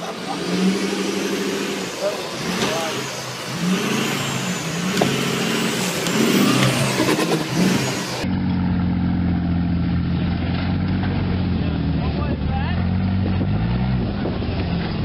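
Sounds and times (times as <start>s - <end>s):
truck engine revving: 0.0s - 15.0s
vehicle engine under load: 0.0s - 15.0s.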